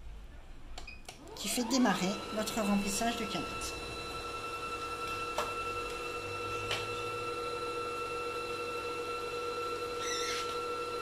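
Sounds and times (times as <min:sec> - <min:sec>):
sewing machine motor whining: 0:01.2 - 0:11.0.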